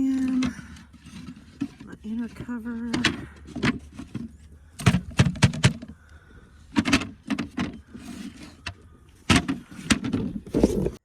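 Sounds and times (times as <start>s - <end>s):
wooden hive parts clattering: 0.0s - 11.0s.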